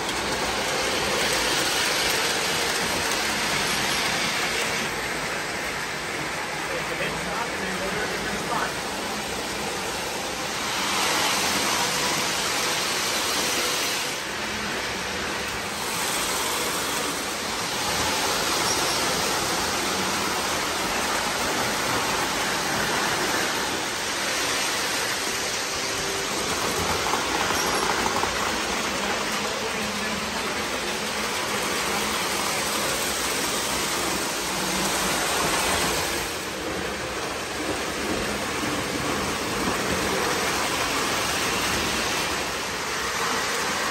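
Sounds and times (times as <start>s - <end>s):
model train wheels rumbling: 0.0s - 43.9s.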